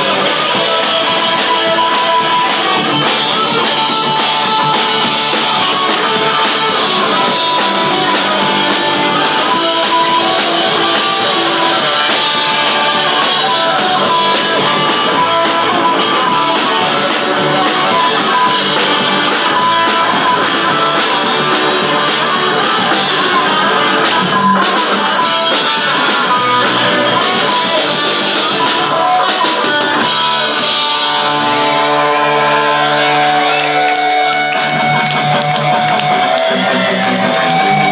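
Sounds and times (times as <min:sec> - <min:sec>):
electric guitars: 0:00.0 - 0:37.9
punk rock band playing live: 0:00.0 - 0:37.9.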